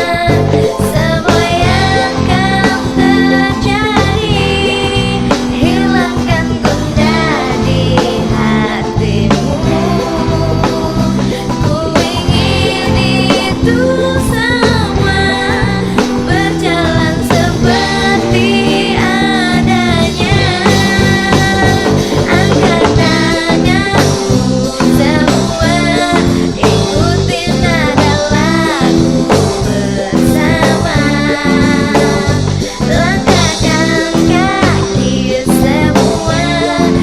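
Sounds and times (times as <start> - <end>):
guitar: 0.0 - 37.0
singer vocals: 0.0 - 37.0
steady drum beat: 0.0 - 37.0.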